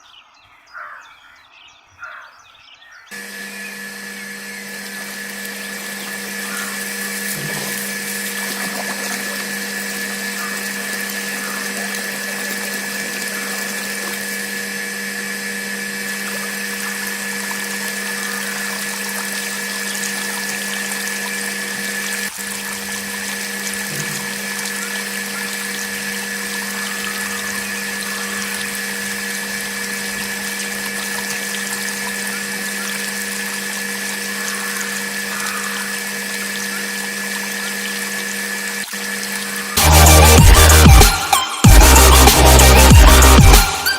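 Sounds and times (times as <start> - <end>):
water pump humming: 3.1 - 43.9
water splashing and trickling: 3.2 - 41.3.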